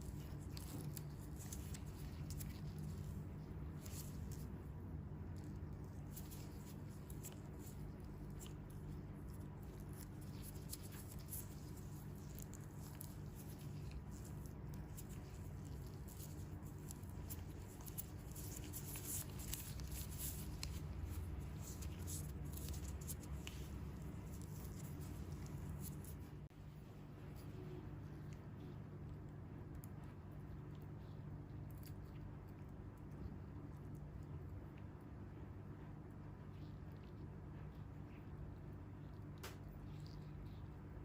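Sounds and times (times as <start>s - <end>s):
crackling and rustling of skin peeling: 0.0s - 26.6s, 27.2s - 41.0s
steady low hum: 0.0s - 41.0s.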